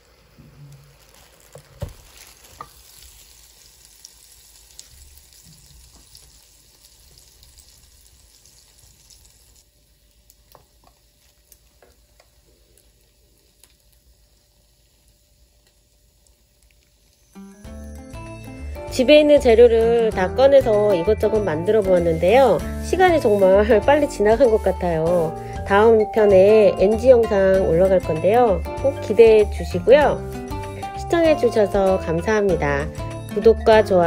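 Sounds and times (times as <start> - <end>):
patties sizzling in waffle maker: 0.0 - 34.0.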